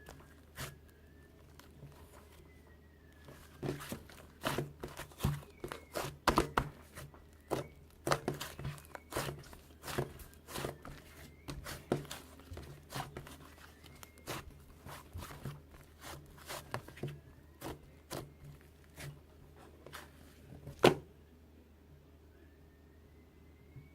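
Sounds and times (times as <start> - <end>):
crinkly handling noises: 0.0 - 21.0.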